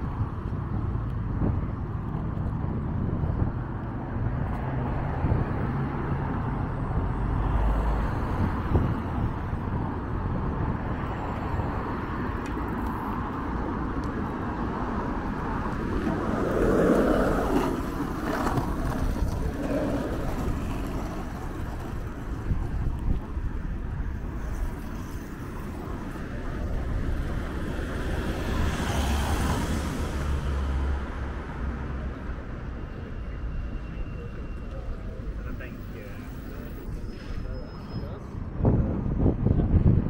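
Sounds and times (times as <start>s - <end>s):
road traffic passing: 0.0s - 40.0s.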